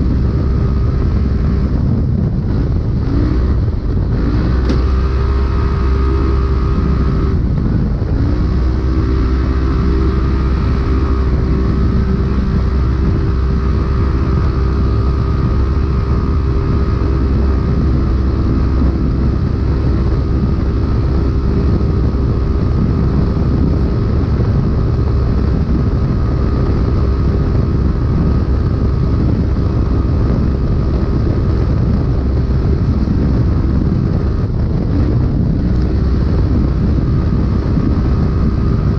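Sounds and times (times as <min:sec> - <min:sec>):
heavy low rumble: 0:00.0 - 0:38.9
off-road vehicle engine revving: 0:00.0 - 0:38.9.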